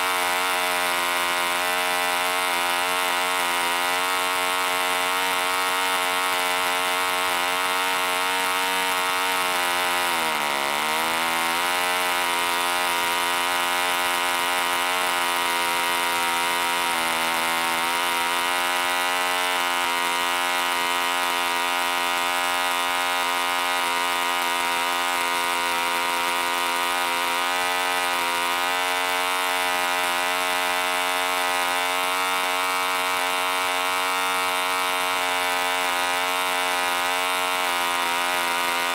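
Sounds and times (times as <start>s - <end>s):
model engine running: 0.0s - 38.9s.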